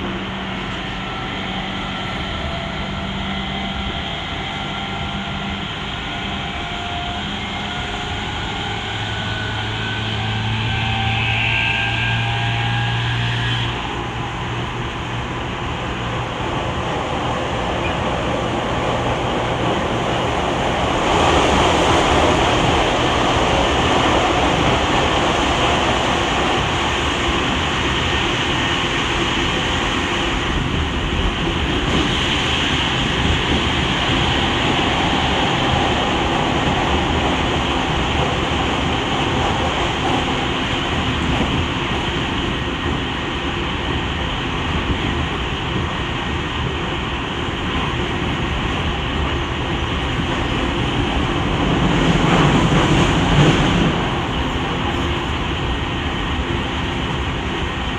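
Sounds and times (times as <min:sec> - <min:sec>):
train running noise inside car: 0:00.0 - 0:57.9.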